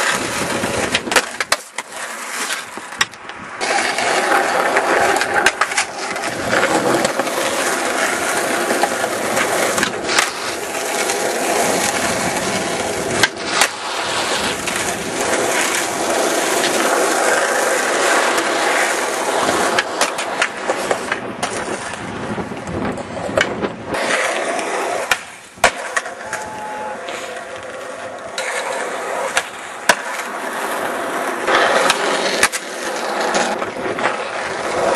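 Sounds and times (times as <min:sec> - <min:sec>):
skateboard clacks: 0:00.0 - 0:34.9
skateboard wheels rolling: 0:00.0 - 0:34.9.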